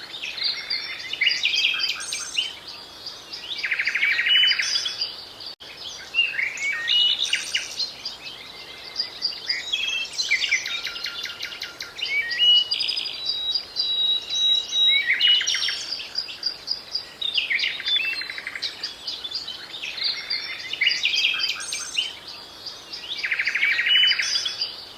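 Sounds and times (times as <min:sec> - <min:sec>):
songbirds singing: 0:00.0 - 0:24.9.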